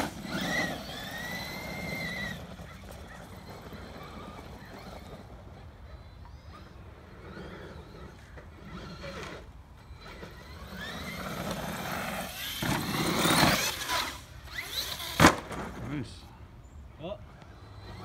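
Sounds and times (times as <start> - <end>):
electric motor whining: 0.0 - 15.3, 17.4 - 18.0
tyres spinning on loose dirt: 0.0 - 16.0, 17.6 - 18.0.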